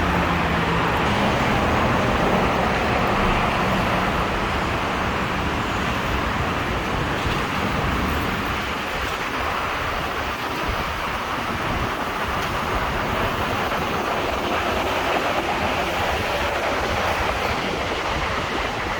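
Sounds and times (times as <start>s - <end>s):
street traffic hiss: 0.0s - 18.9s
wind rumble on microphone: 0.0s - 18.9s.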